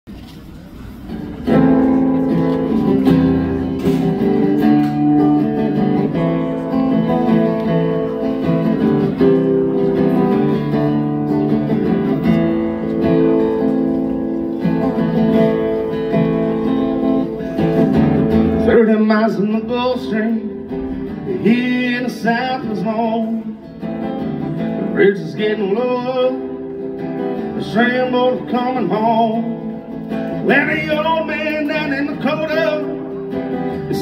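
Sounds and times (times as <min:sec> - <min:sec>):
acoustic guitar strumming chords: 0:00.8 - 0:34.0.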